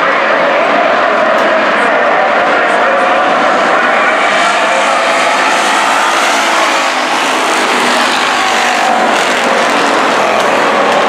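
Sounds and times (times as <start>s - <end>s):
racing car engines drone: 0.0s - 11.0s.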